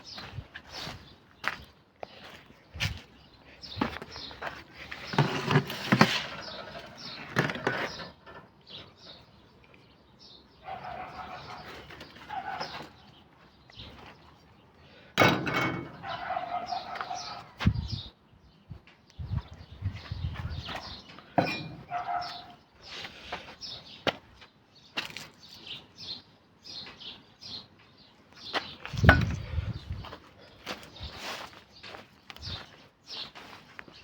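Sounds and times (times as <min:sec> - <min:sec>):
birds calling: 0:00.0 - 0:34.0.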